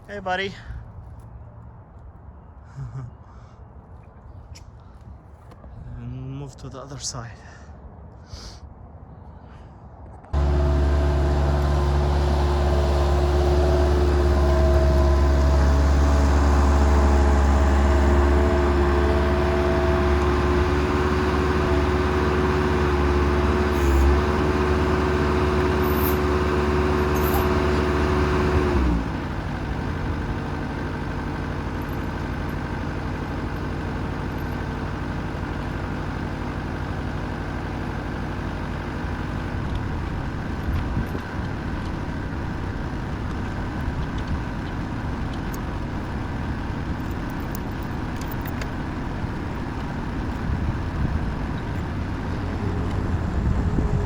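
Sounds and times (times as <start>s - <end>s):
skid steer engine running: 10.3s - 54.0s.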